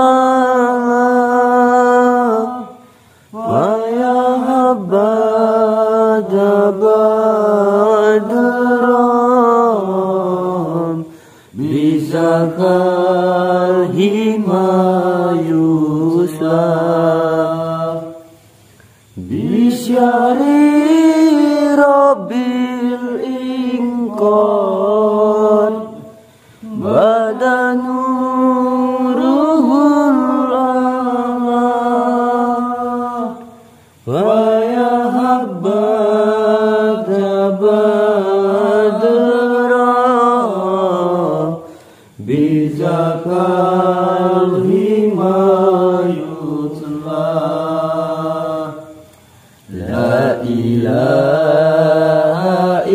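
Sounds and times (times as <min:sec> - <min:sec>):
person chanting devotional chant: 0:00.0 - 0:52.9.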